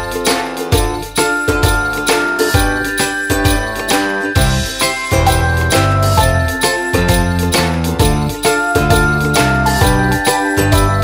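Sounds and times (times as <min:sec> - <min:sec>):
upbeat music with jingling bells: 0:00.0 - 0:11.0.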